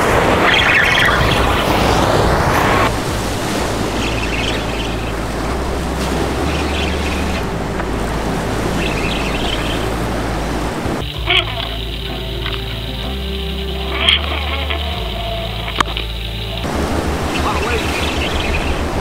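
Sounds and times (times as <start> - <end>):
waves washing against rocks: 0.0 - 19.0
wind on microphone: 0.0 - 19.0.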